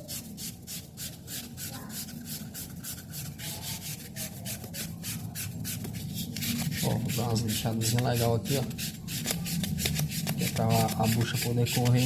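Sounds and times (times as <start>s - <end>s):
wet sandpaper rubbing metal shaft: 0.0s - 12.0s.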